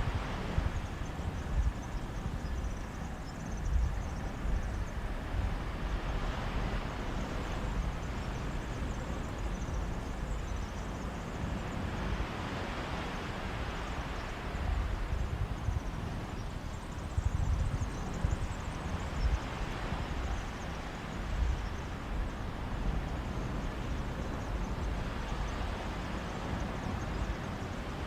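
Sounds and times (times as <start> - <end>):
wind gusts on microphone: 0.0 - 28.0.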